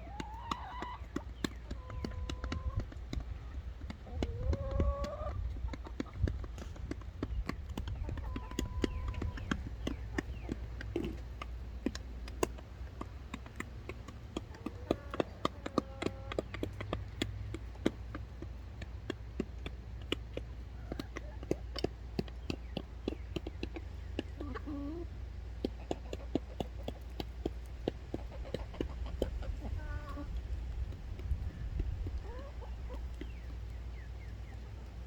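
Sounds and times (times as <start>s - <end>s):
chickens clucking: 0.0s - 35.0s
chickens pecking taps: 0.0s - 35.0s.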